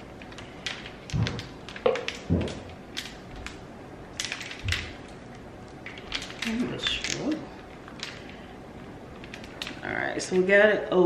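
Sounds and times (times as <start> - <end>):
plastic packet crinkling: 0.0 - 10.5.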